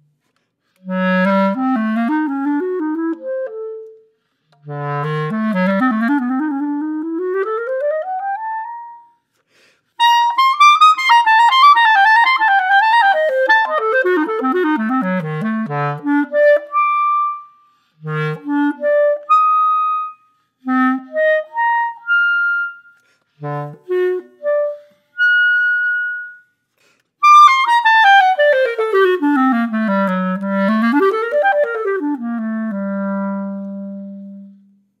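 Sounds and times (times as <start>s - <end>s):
solo clarinet playing: 0.0s - 9.3s, 10.0s - 26.6s, 27.2s - 35.0s.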